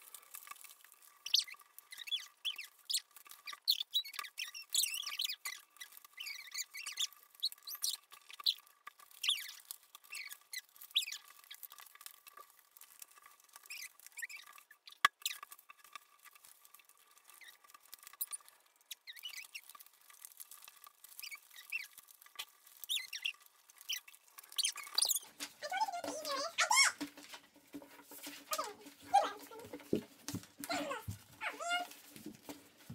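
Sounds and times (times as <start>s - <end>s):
paper rustling and creasing: 0.0s - 32.9s.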